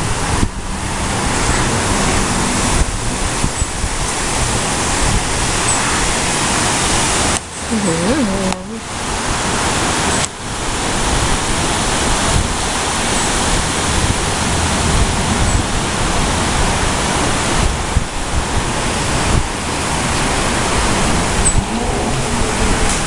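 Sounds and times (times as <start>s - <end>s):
storm wind gusting: 0.0s - 8.2s, 8.8s - 23.0s
wind buffeting microphone: 0.0s - 23.0s.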